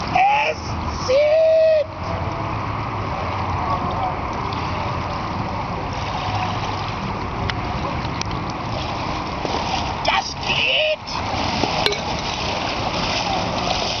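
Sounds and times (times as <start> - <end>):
river water rushing: 0.0 - 14.0
faint splashes of wading: 1.9 - 14.0.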